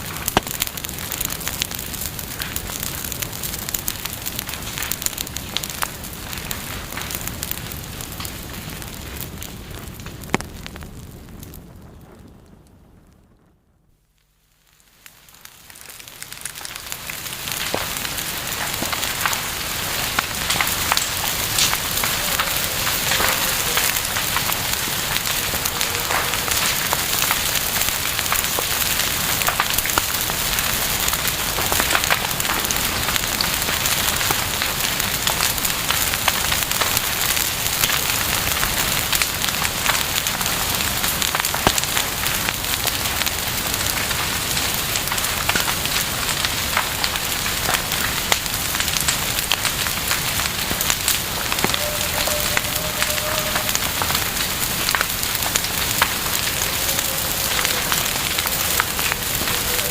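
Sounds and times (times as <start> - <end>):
bonfire crackling and hissing: 0.0 - 59.9.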